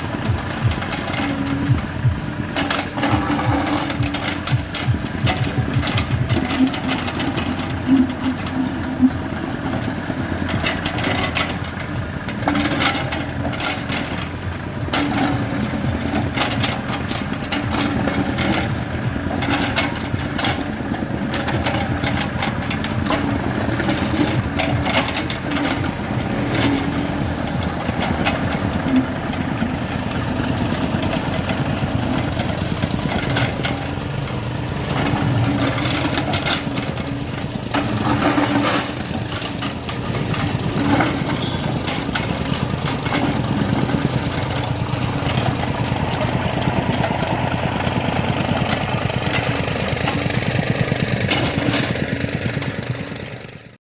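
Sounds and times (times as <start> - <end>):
metal clanks and scrapes: 0.0 - 53.2
excavator diesel engine running: 0.0 - 53.8.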